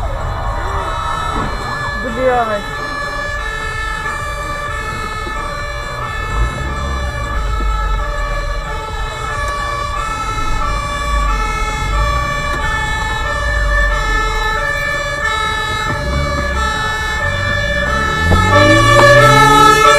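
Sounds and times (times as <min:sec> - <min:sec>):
two-tone fire truck siren: 0:00.0 - 0:19.9.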